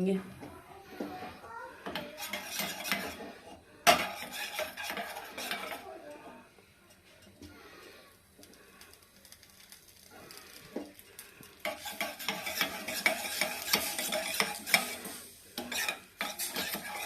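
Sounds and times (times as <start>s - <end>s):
spoon stirring and scraping pan: 0.8s - 17.0s.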